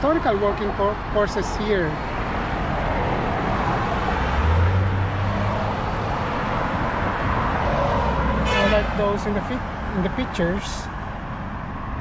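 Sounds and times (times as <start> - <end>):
road traffic passing: 0.0 - 12.0
vehicle engine hum: 0.0 - 12.0.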